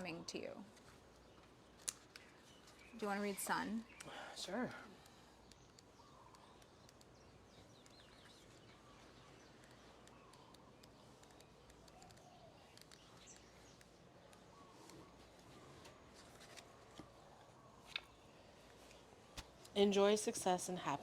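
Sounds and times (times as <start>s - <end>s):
faint bird chirps: 0.0s - 19.8s
faint background hiss: 0.0s - 21.0s.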